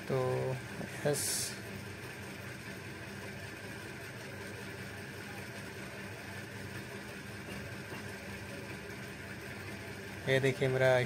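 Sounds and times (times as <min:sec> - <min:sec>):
laser printer humming: 0:00.0 - 0:11.0.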